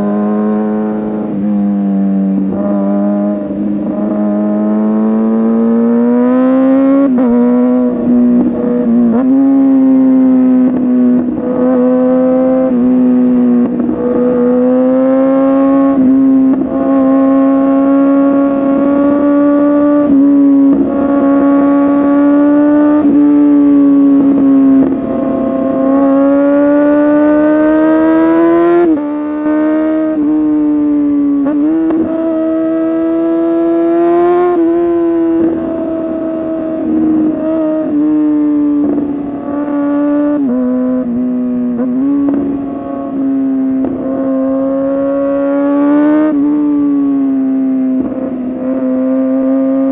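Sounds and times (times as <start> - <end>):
motorcycle engine at high revs: 0.0 - 49.9.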